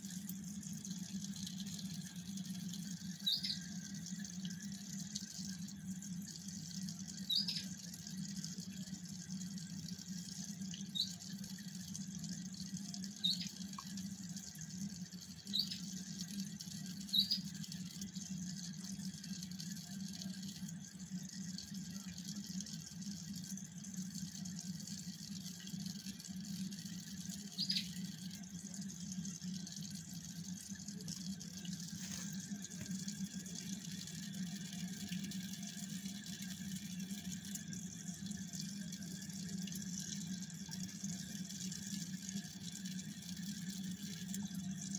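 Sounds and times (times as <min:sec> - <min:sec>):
aquarium pumps humming: 0:00.0 - 0:44.9.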